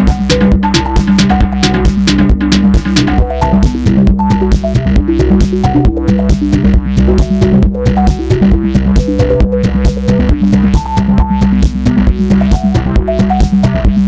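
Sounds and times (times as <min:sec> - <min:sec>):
synth melody: 0:00.0 - 0:11.6
drum machine beat: 0:00.0 - 0:14.0
synth bass line: 0:00.0 - 0:14.0.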